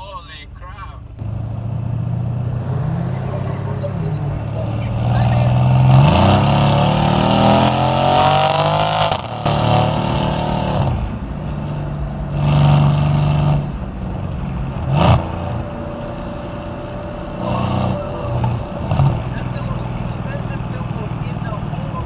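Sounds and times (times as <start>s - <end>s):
sharp exhaust crack: 0.0s - 22.0s
car engine revving: 0.6s - 22.0s.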